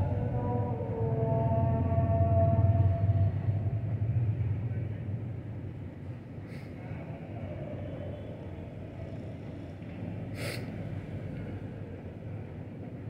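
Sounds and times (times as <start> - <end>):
low rumble of city ambience: 0.0 - 13.0.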